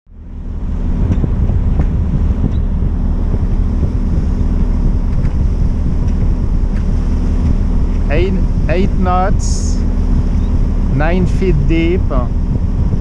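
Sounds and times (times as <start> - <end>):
low rumble: 0.1 - 13.0
wind buffeting microphone: 0.1 - 13.0.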